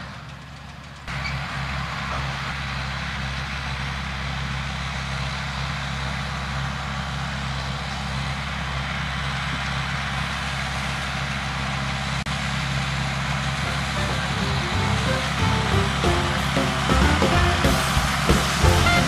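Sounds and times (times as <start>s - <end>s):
baler machinery noise: 0.0s - 19.0s
tractor engine drone: 0.0s - 19.0s.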